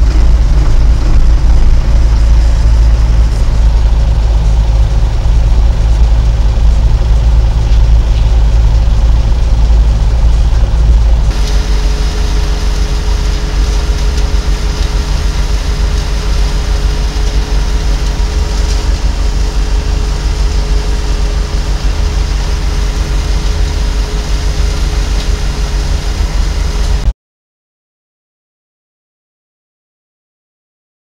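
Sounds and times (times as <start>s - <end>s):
rotor whining: 0.0s - 27.1s
tractor engine under load: 0.0s - 27.1s.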